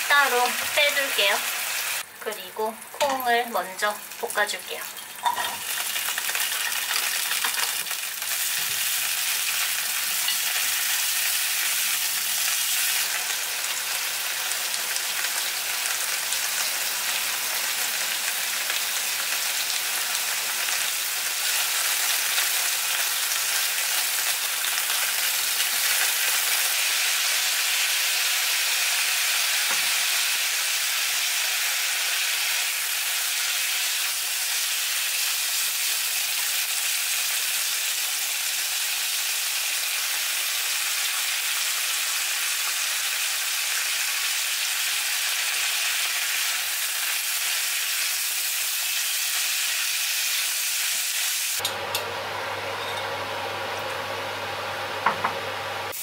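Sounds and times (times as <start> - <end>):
green beans sizzling in oil: 0.0 - 56.0.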